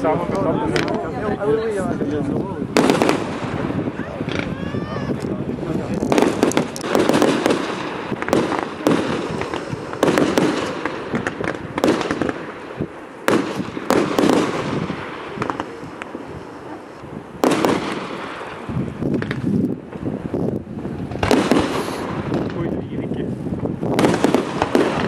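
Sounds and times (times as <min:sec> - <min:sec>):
fireworks bursting with bangs: 0:00.0 - 0:25.0
fireworks rumble and crackle: 0:00.0 - 0:25.0.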